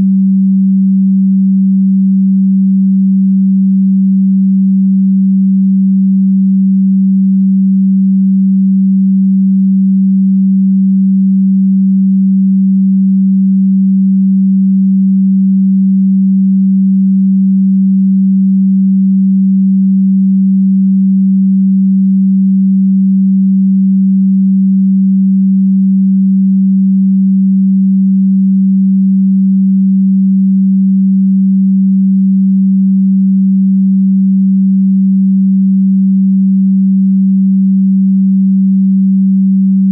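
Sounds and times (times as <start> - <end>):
low sine tone: 0.0 - 39.9.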